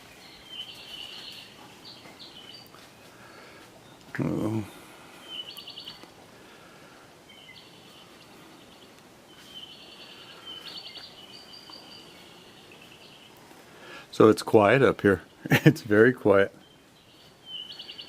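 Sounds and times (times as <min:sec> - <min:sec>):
birds trilling and chirping: 0:00.0 - 0:18.0.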